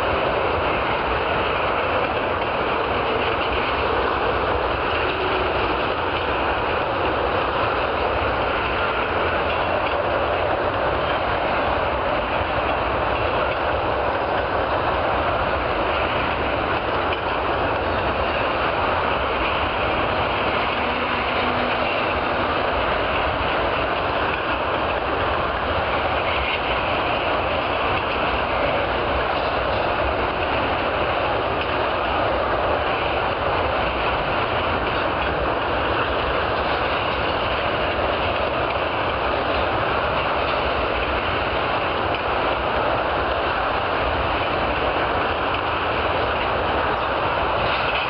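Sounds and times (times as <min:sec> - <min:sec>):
freight train wheels rumbling on rails: 0:00.0 - 0:48.0.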